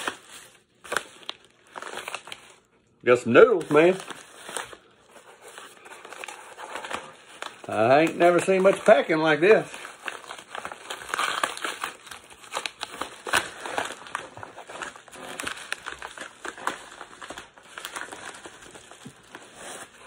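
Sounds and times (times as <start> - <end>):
paper mailer crinkling: 0.0 - 20.0.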